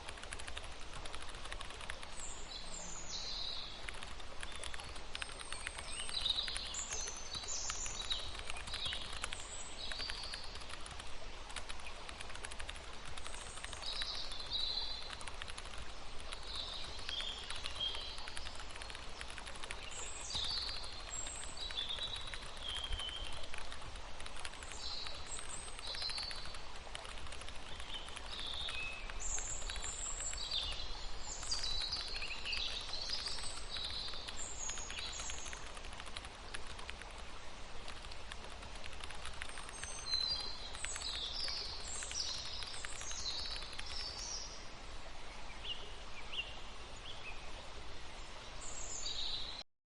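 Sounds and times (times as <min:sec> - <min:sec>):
outdoor background hiss: 0:00.0 - 0:49.6
small birds chirping: 0:00.0 - 0:49.6.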